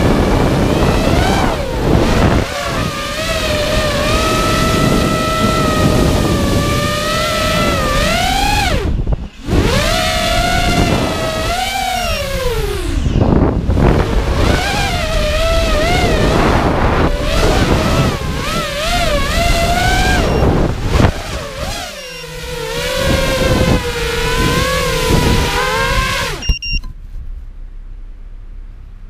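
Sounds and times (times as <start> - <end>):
rushing air: 0.0 - 26.5
drone motors whining: 0.0 - 26.9.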